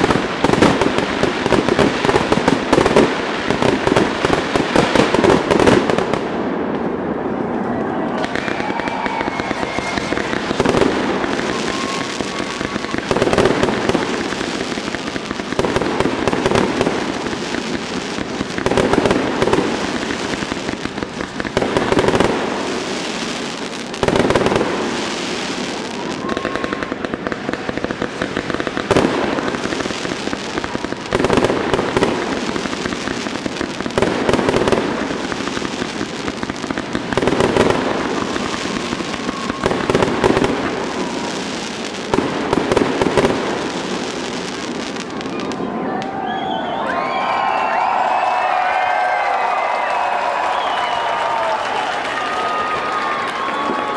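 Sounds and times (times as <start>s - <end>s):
fireworks crackling: 0.0s - 53.9s.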